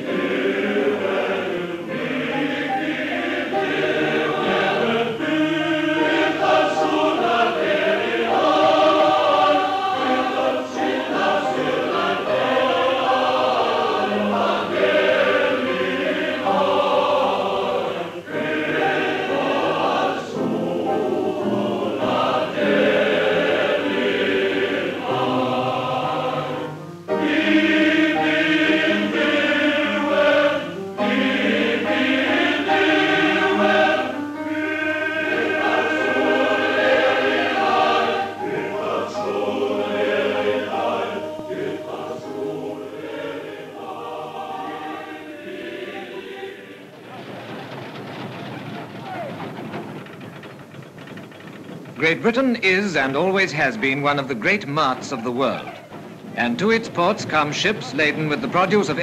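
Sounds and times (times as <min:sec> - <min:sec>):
male choir singing in harmony: 0:00.0 - 0:50.2, 0:52.0 - 0:59.0.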